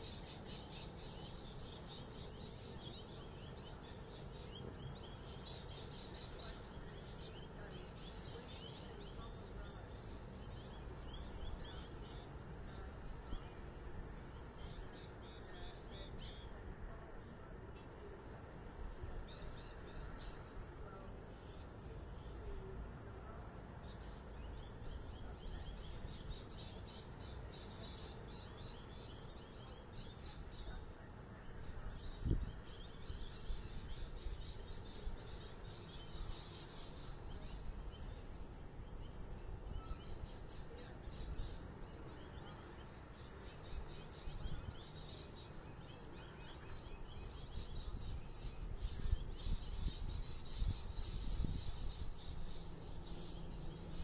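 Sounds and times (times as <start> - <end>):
birds chirping: 0.0 - 17.4, 18.0 - 54.0.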